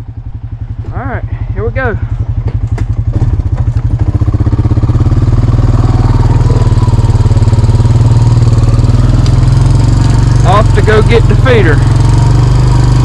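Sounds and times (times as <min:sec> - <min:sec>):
vehicle engine pulling away: 0:00.0 - 0:13.0.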